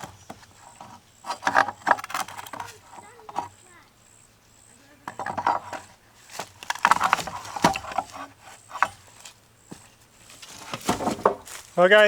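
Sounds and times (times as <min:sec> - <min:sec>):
wooden boards knocking and cracking: 0:00.0 - 0:03.6, 0:05.0 - 0:12.0.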